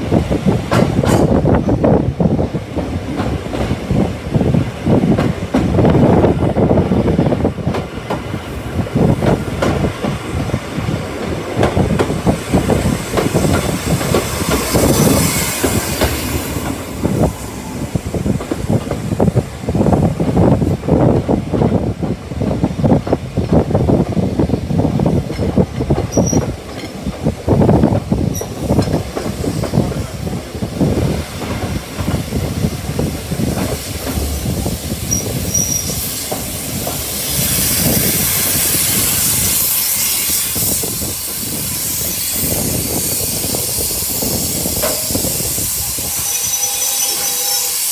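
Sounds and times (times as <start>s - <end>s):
train wheels clattering over joints: 0.2s - 47.9s.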